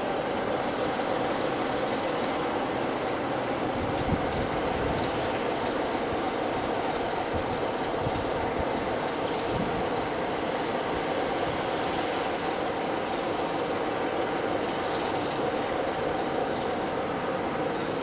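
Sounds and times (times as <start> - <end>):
train running: 0.0 - 18.0.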